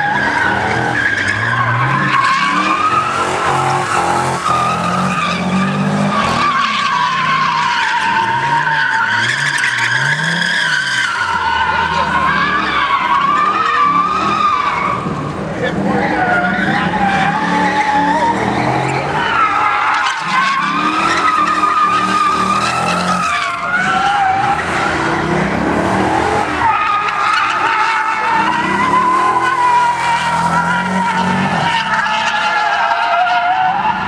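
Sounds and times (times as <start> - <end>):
car engine running hard: 0.0 - 32.8
tyres squealing: 0.0 - 34.0.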